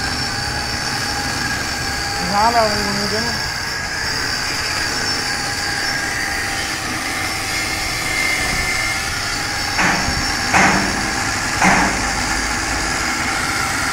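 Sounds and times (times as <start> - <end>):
harsh metalwork bursts: 0.0 - 13.9
workshop machinery running: 0.0 - 13.9.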